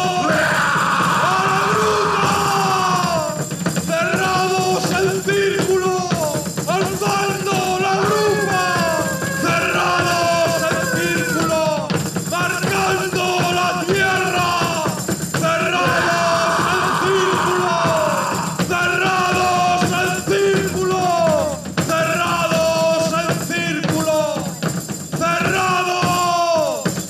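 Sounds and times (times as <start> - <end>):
percussion: 0.0 - 27.0.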